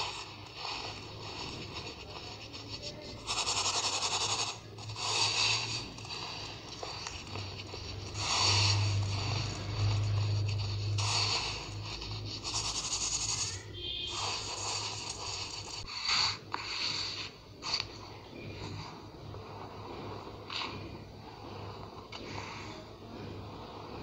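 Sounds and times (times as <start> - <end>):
powder rubbed through sieve: 0.0 - 24.0.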